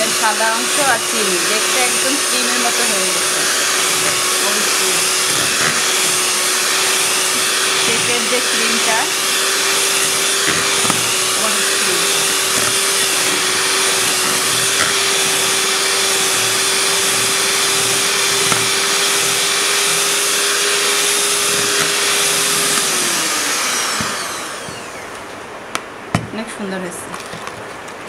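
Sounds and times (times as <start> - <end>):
beaters whipping in plastic bowl: 0.0 - 25.1
hand mixer motor whine: 0.0 - 25.3.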